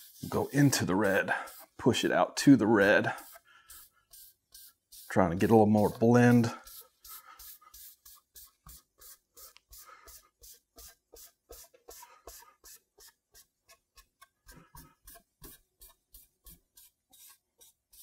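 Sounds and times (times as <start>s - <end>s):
cloth rag rubbing wood: 0.0s - 18.0s.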